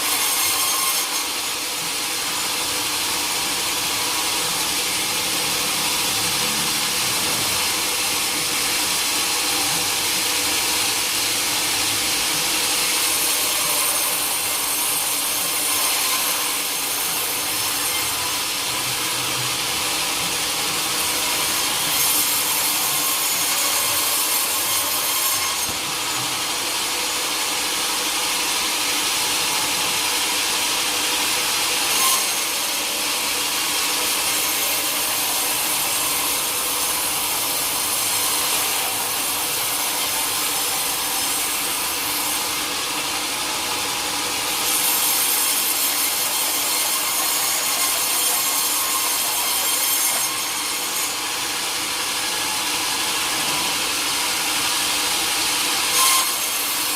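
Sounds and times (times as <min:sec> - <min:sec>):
saw blade cutting log: 0:00.0 - 0:56.9.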